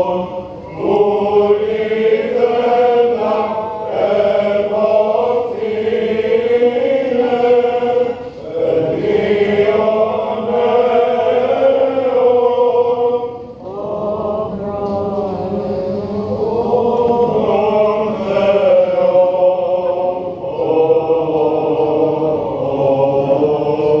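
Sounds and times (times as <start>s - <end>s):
voices chanting long notes: 0.0s - 24.0s.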